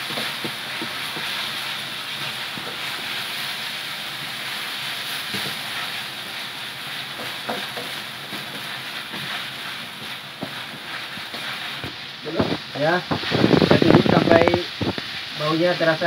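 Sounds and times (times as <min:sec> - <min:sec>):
paste and onions sizzling in a wok: 0:00.0 - 0:16.0.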